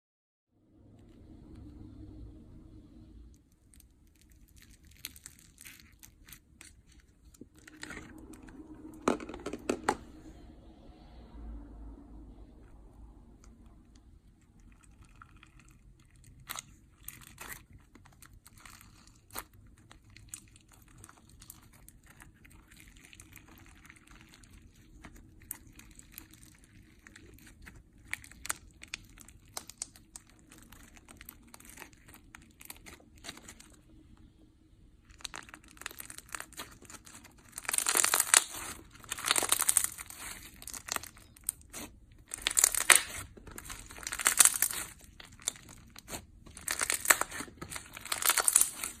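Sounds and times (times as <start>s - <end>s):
slime crackling and crunching: 3.3s - 10.0s, 13.2s - 49.0s.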